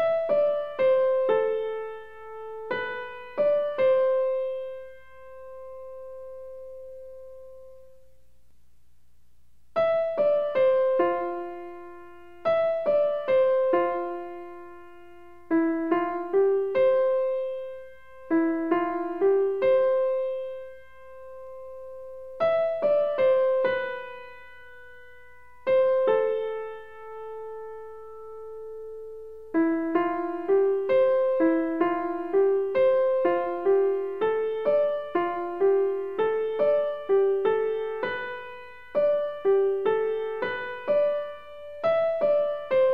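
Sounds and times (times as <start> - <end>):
piano music: 0.0 - 8.1, 9.8 - 42.9.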